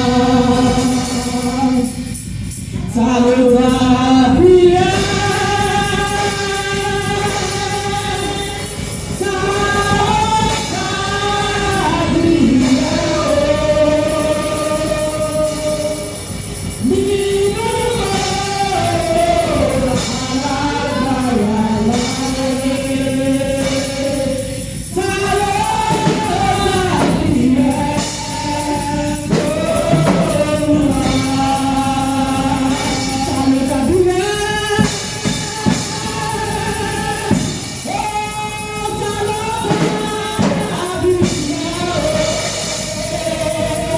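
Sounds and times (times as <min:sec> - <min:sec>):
band with drums: 0:00.0 - 0:43.9
gospel singing: 0:00.0 - 0:43.9.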